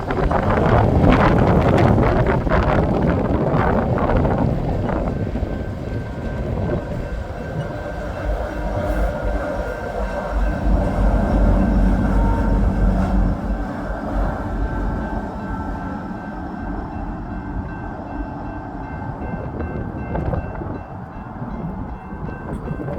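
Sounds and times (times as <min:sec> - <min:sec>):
train cars rumbling past: 0:00.0 - 0:22.9
wind on microphone: 0:00.0 - 0:22.9.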